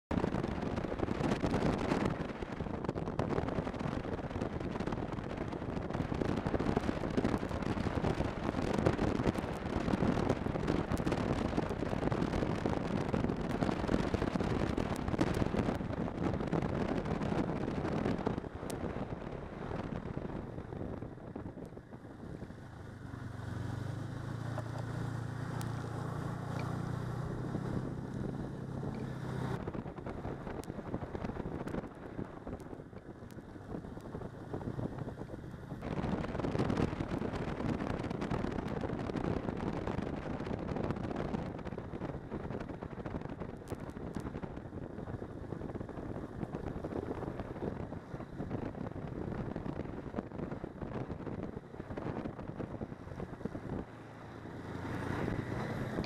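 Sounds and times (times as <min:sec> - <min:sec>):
snowmobile engine and track: 0:00.1 - 0:56.0
wind rushing over microphone: 0:00.1 - 0:56.0.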